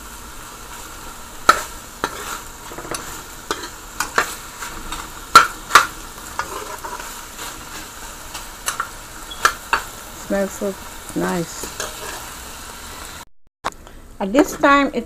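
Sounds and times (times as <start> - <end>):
meat sizzling in oil: 0.0 - 13.2.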